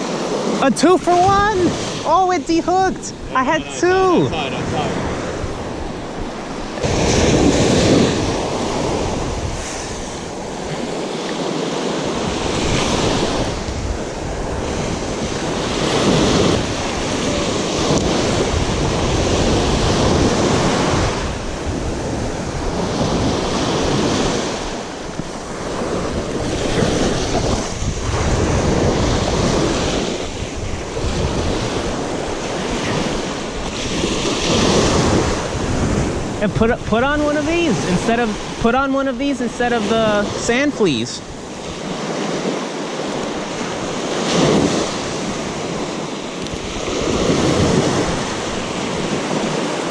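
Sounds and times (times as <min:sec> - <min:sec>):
surf breaking on beach: 0:00.0 - 0:49.9
wind buffeting microphone: 0:00.0 - 0:49.9.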